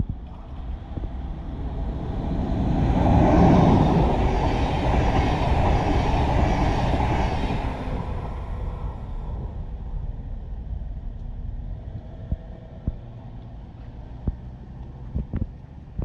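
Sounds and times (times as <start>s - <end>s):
train coaches rolling past: 0.0s - 14.8s.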